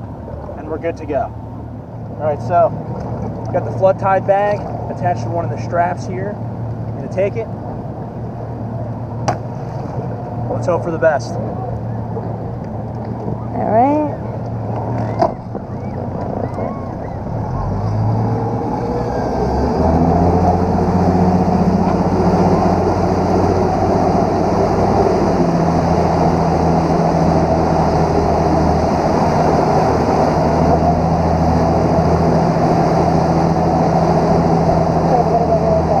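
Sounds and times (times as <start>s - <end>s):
motorboat engine running: 0.0s - 36.0s
steady rushing noise: 0.0s - 36.0s.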